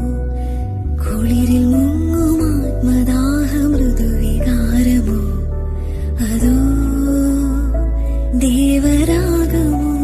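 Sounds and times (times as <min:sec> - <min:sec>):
slow gentle film song: 0:00.0 - 0:10.0.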